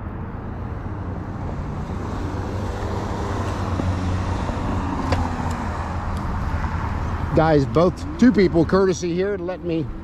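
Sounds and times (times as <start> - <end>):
car engines running: 0.0 - 10.0
tyre noise on road: 0.0 - 10.0.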